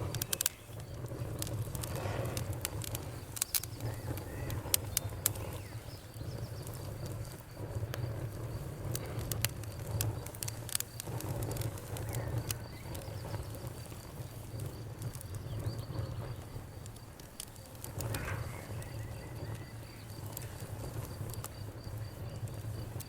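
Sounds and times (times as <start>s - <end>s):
campfire crackling: 0.0s - 23.0s
insect trill: 0.0s - 23.0s.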